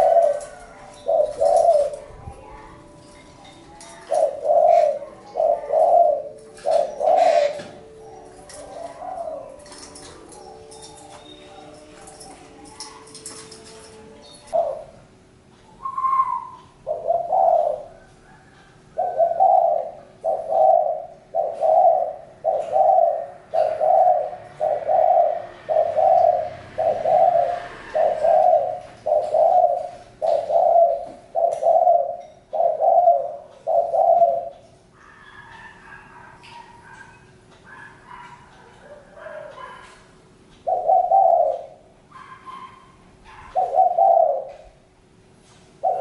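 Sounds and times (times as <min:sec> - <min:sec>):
dove cooing: 0:00.0 - 0:15.1, 0:15.7 - 0:44.9, 0:45.7 - 0:46.0.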